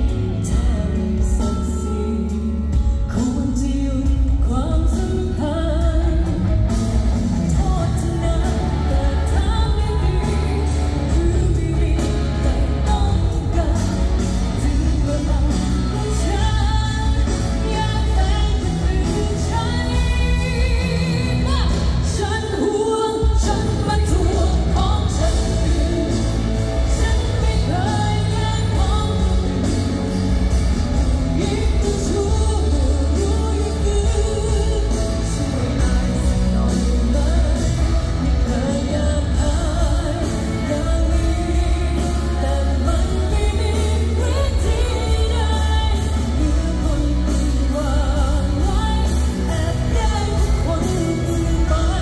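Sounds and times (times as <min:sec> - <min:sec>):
pop-rock band playing: 0:00.0 - 0:52.0
woman singing into microphone: 0:00.0 - 0:52.0.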